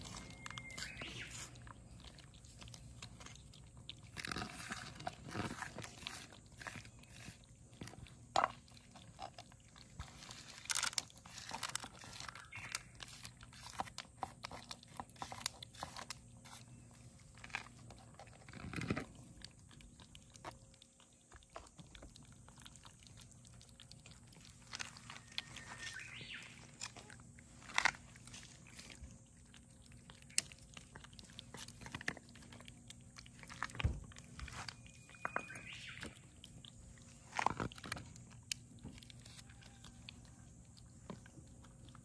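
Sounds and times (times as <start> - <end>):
cats crunching dry kibble: 0.0 - 42.0.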